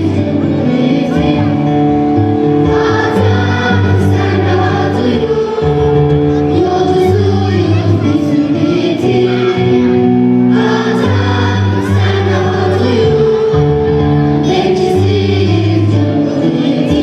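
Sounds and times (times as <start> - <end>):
choir singing: 0.0 - 17.0
instrumental accompaniment: 0.0 - 17.0
steady bass line: 0.0 - 17.0.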